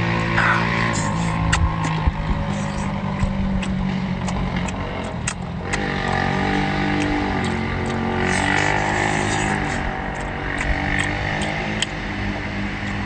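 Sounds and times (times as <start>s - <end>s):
engine drone: 0.0s - 13.0s
wet chewing and lip smacks: 1.0s - 12.0s, 12.8s - 13.0s.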